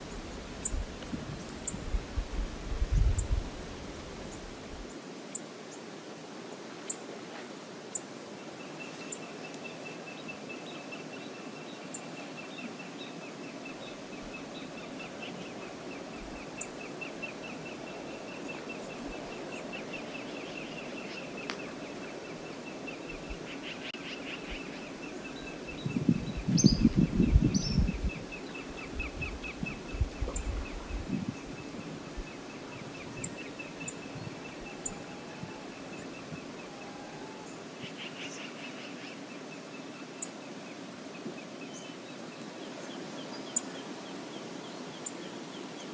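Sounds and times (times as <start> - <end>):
flowing river water: 0.0 - 26.4, 28.0 - 45.9.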